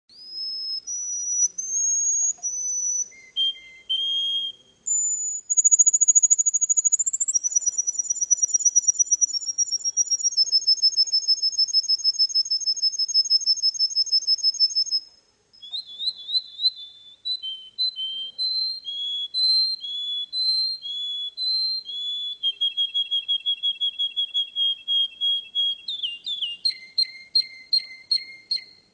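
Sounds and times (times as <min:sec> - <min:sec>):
canary singing: 0:00.1 - 0:28.9.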